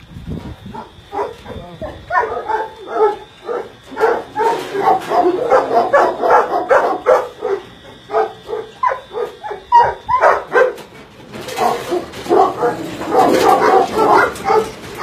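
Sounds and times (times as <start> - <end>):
many dogs barking: 0.7 - 15.0.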